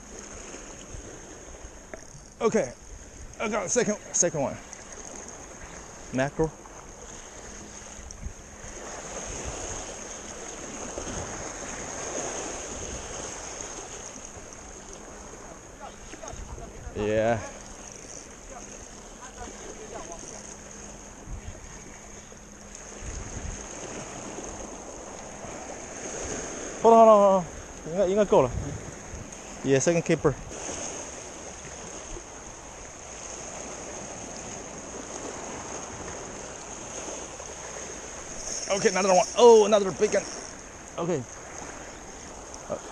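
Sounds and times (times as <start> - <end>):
sea noise: 0.0 - 42.9
wind: 0.0 - 42.9.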